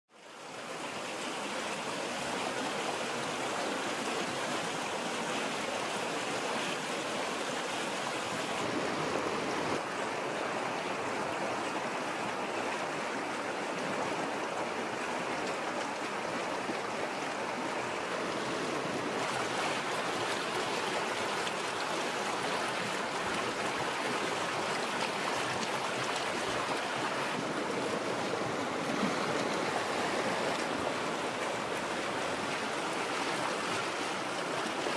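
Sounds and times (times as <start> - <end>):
river rushing over rocks: 0.2 - 34.9.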